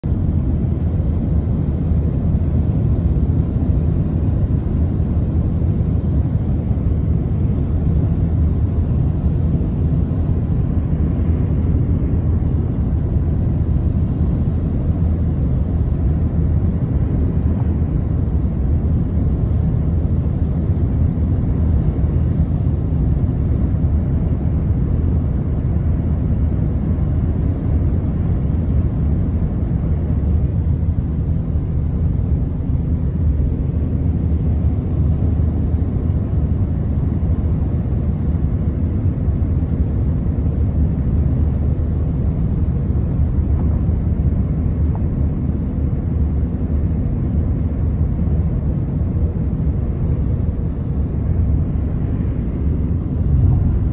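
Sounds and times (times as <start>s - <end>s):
road and engine rumble in truck cab: 0.0s - 53.9s.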